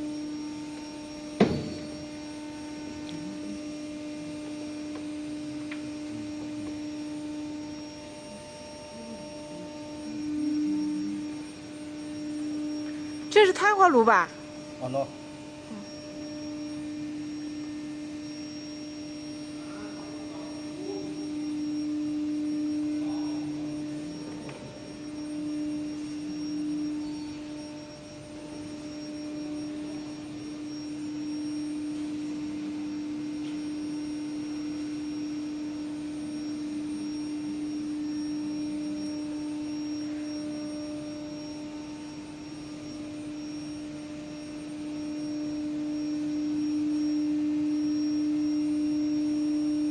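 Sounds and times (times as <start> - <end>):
machine hum: 0.0 - 49.9.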